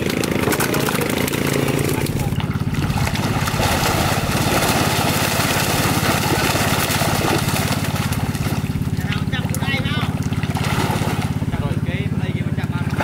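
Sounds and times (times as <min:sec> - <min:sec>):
small engine running: 0:00.0 - 0:13.0
water splashing and churning: 0:00.0 - 0:13.0.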